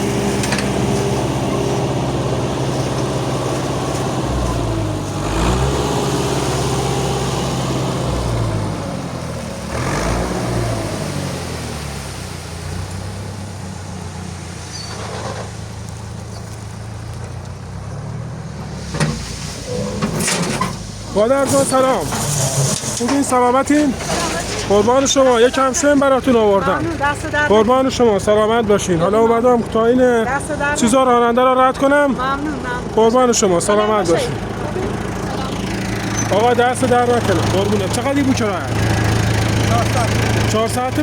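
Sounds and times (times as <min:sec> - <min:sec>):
truck engine revving and idling: 0:00.0 - 0:41.0.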